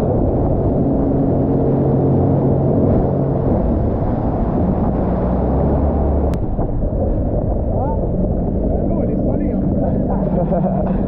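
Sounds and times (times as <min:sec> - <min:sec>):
jet ski engine running: 0:00.0 - 0:11.0
rush of wind and water: 0:00.0 - 0:11.0.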